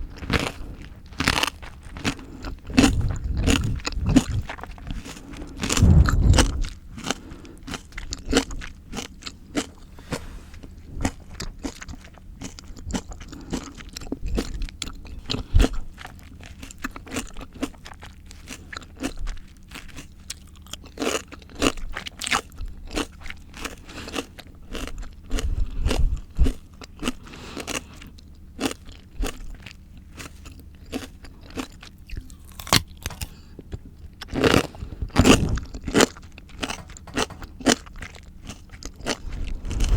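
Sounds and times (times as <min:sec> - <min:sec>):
wet crunchy chewing: 0:00.1 - 0:39.9.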